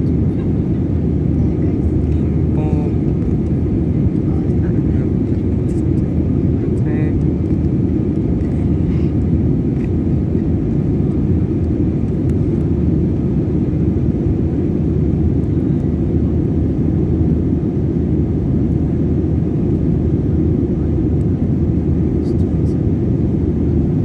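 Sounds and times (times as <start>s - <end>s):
engine and airflow roar: 0.0s - 24.0s.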